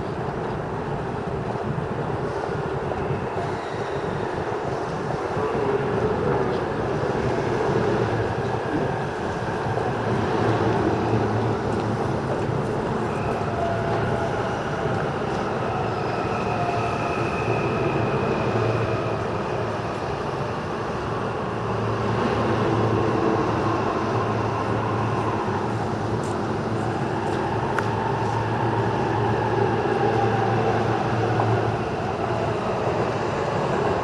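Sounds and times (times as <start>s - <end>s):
electric train running on rails: 0.0s - 34.0s.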